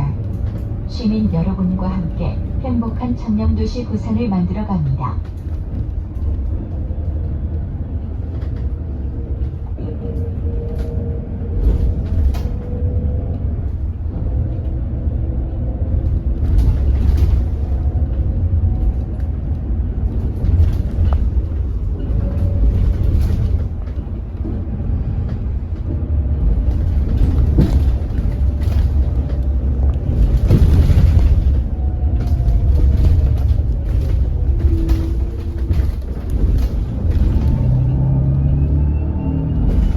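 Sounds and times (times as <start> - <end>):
bus cabin low rumble: 0.0 - 39.9.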